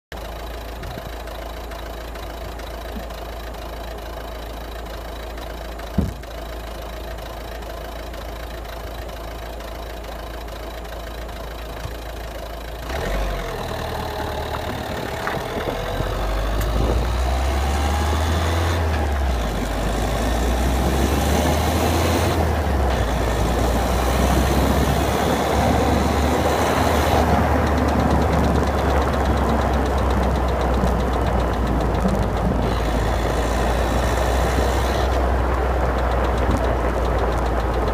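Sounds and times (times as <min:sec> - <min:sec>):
diesel engine running: 0:00.1 - 0:37.9.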